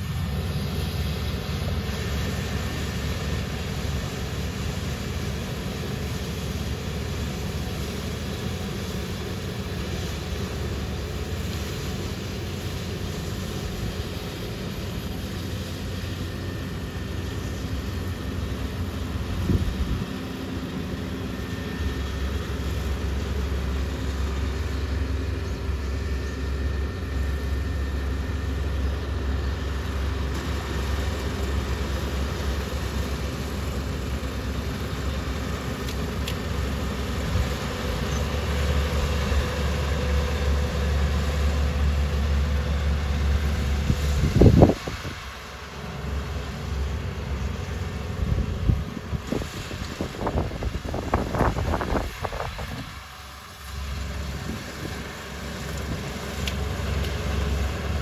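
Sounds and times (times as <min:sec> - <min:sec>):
heavy farm machinery droning: 0:00.0 - 0:58.0.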